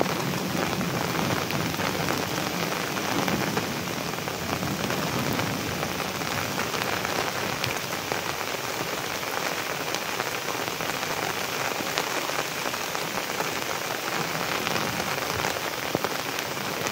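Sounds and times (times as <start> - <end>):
raindrops ticking on a surface: 0.0 - 16.9
steady rain falling: 0.0 - 16.9.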